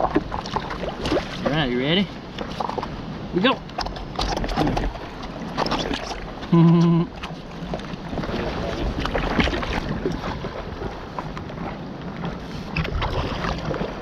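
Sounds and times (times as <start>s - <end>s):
water splashing from paddle strokes: 0.0s - 14.0s
wind rumbling on microphone: 0.0s - 14.0s.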